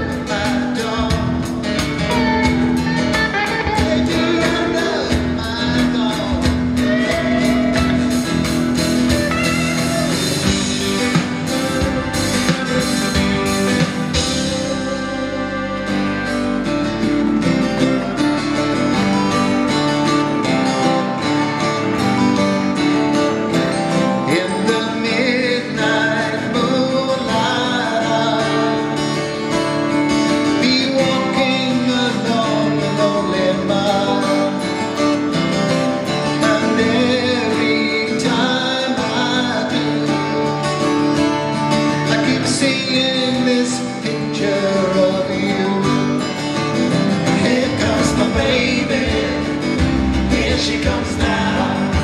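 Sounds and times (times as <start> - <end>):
man singing: 0.0 - 16.6, 24.0 - 29.4, 30.2 - 35.2, 36.1 - 41.1, 41.8 - 52.0
acoustic guitar strumming chords: 0.0 - 52.0.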